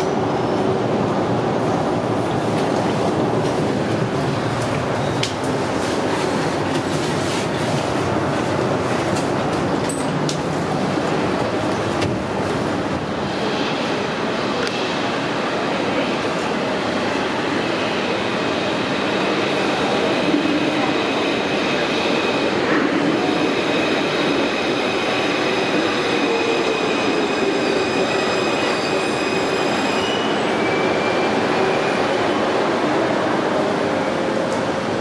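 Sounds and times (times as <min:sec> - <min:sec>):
metro platform din: 0:00.0 - 0:35.0.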